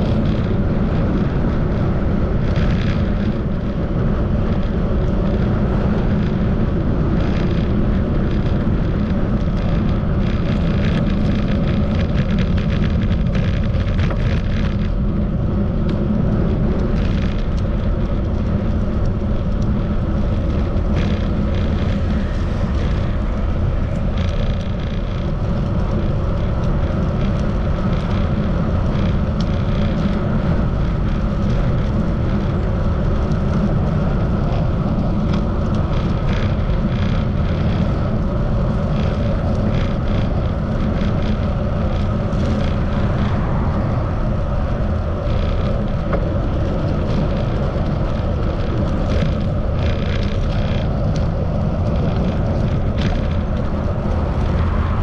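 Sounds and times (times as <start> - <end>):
rolling road noise: 0.0 - 55.0
wind buffeting microphone: 0.0 - 55.0.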